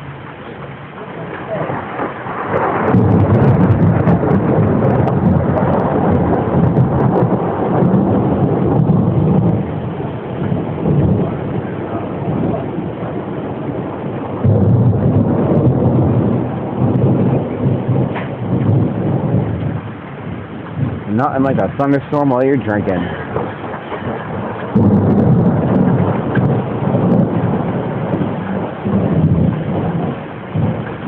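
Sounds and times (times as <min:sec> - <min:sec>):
steady rain: 0:00.0 - 0:31.0
thunder rumbling: 0:00.0 - 0:31.0.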